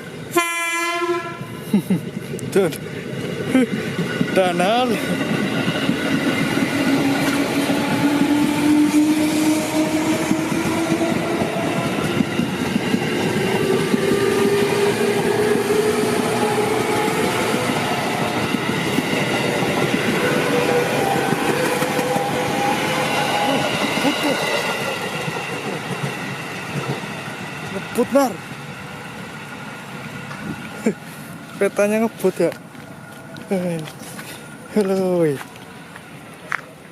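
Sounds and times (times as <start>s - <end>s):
train wheels on rails: 0.0s - 36.9s.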